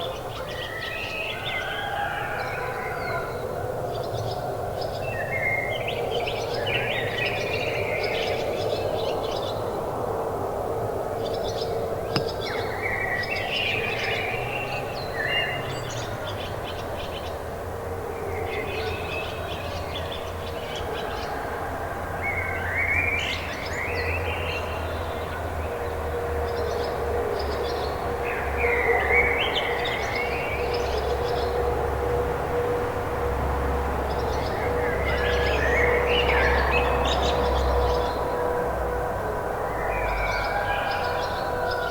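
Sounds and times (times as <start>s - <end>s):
songbirds singing: 0.0s - 21.4s, 22.2s - 41.9s.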